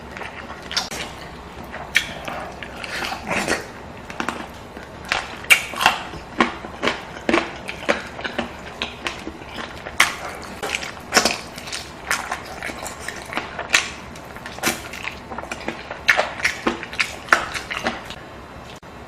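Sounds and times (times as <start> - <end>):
person chewing with wet smacks: 0.0 - 18.8.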